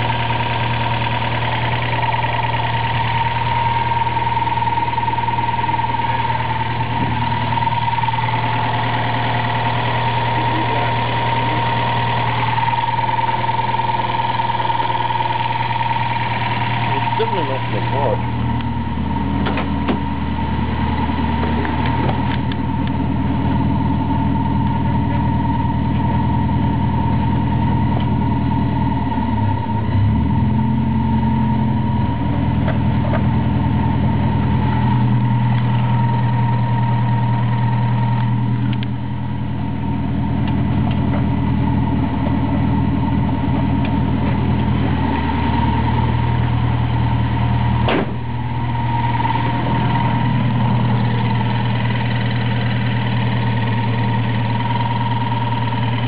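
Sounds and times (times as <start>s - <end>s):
car engine idling: 0.0s - 56.0s
high whining tone: 0.0s - 56.0s.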